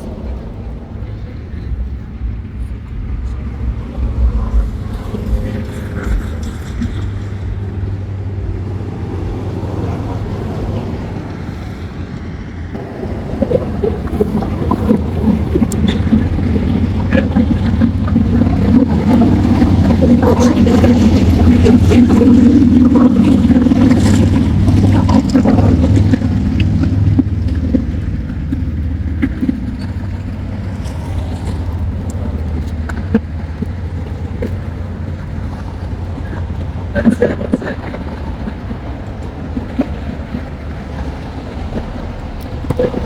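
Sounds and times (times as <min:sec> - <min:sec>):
vehicle engine rumbling: 0:00.0 - 0:43.0.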